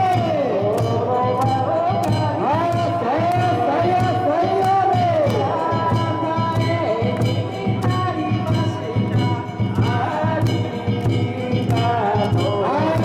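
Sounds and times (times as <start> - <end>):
instrumental accompaniment with beat: 0.0 - 13.0
person singing ornamented lines: 0.0 - 13.0.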